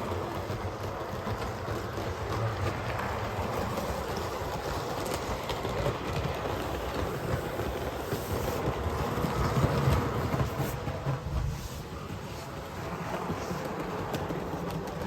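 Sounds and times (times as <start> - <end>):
model locomotive rattling on track: 0.0 - 15.0.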